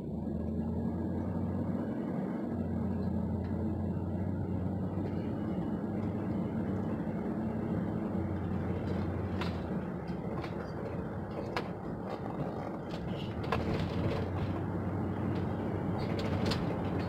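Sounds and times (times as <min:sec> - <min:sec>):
car engine and tyres hum: 0:00.0 - 0:17.0.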